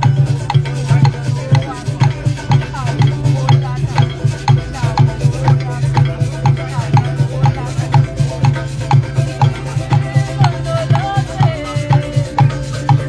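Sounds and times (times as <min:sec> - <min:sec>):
drums pulsing: 0:00.0 - 0:13.0
live percussion band music: 0:00.0 - 0:13.0.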